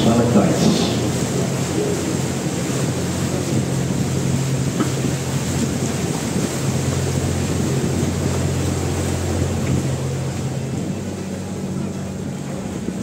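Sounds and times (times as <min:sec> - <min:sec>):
boat motor humming: 0:00.0 - 0:13.0
wind and water hiss: 0:00.0 - 0:13.0.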